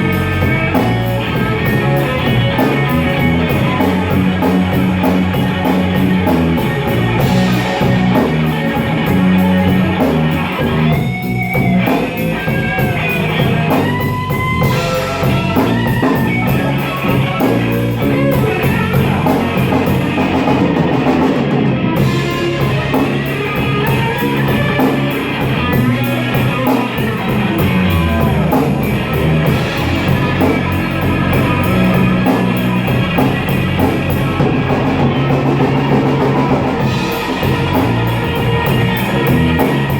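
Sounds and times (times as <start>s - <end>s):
lead guitar solo with bent notes: 0.0s - 39.9s
slow blues band: 0.0s - 39.9s.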